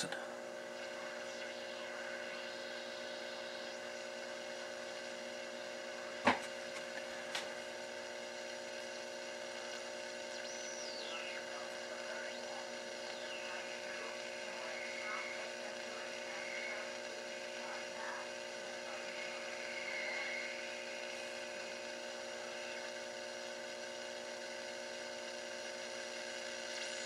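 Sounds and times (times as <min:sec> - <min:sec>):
radio hum and hiss: 0:00.0 - 0:27.0.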